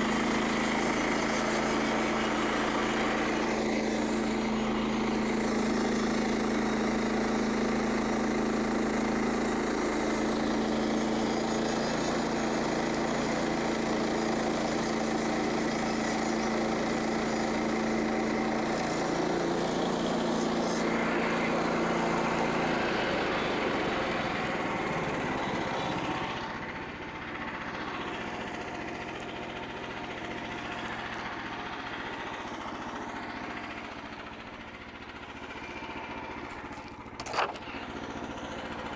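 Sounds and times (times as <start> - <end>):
sawmill gasoline engine running: 0.0 - 38.9.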